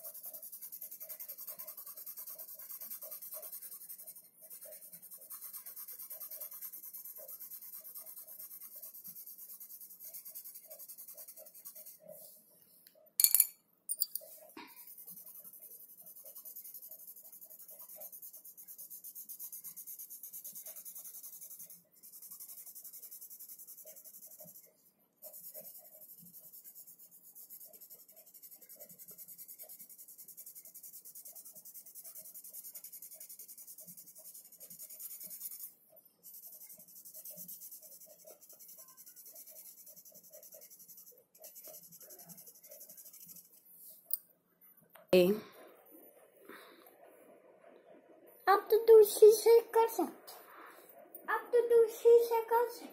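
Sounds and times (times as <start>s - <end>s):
pencil scratching on paper: 0.0s - 12.6s, 14.2s - 44.1s, 47.0s - 52.9s.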